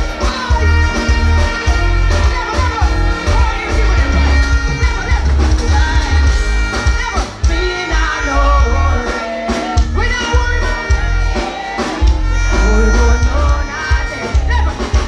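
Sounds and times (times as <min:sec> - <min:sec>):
heavy bass line: 0:00.0 - 0:15.0
live band music: 0:00.0 - 0:15.0.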